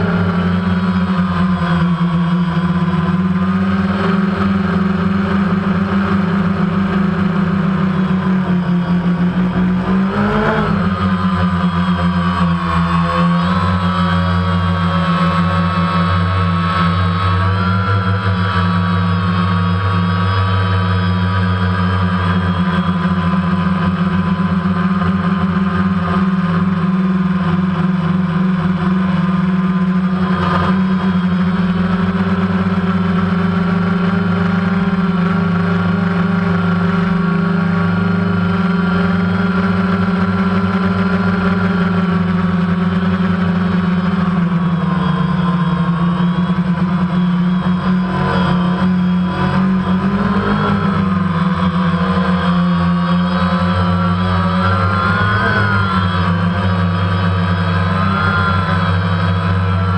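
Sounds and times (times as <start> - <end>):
drone motors and propellers: 0.0 - 59.9.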